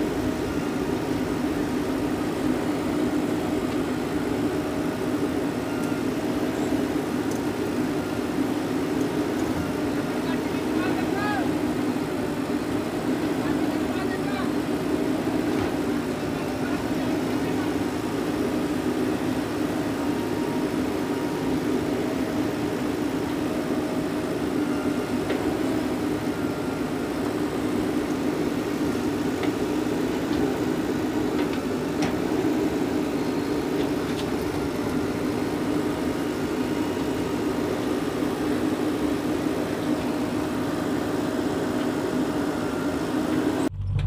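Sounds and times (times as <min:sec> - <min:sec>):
diesel engines droning: 0:00.0 - 0:44.0.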